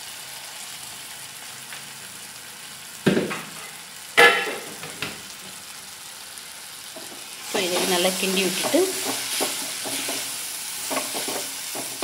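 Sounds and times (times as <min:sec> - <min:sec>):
masala sizzling in hot oil: 0:00.0 - 0:12.0.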